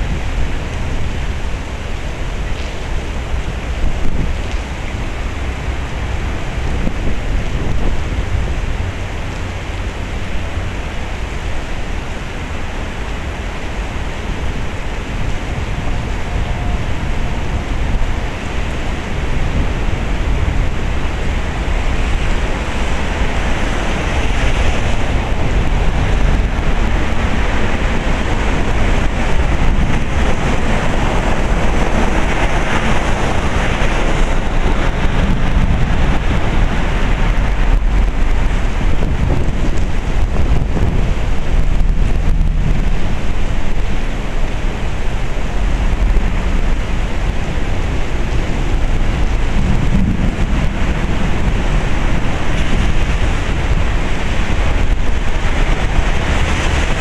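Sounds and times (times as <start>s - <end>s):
heavy rain pouring: 0.0s - 57.0s
wind rumbling on microphone: 0.0s - 57.0s.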